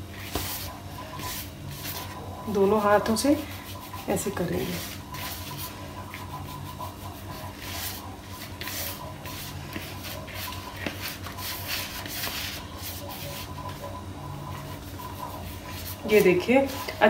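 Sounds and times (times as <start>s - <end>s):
hands rubbing flour in bowl: 0.0s - 17.0s.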